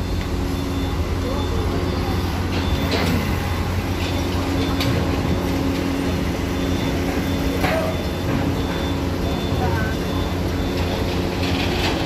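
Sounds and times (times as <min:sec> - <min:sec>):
ferry engine rumble and hum: 0:00.0 - 0:12.0.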